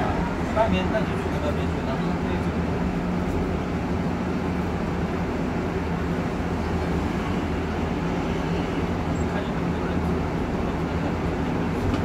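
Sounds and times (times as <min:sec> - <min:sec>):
bus engine hum: 0:00.0 - 0:12.0
tyres rumbling on road: 0:00.0 - 0:12.0.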